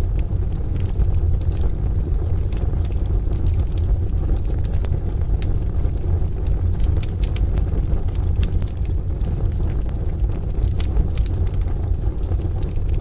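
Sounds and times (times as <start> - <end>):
rain rumble: 0.0 - 13.0
wood fire crackling and popping: 0.0 - 13.0.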